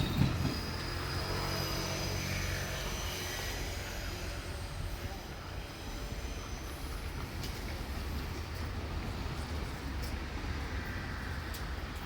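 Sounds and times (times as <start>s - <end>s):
diesel railcar rumbling: 0.0s - 12.0s.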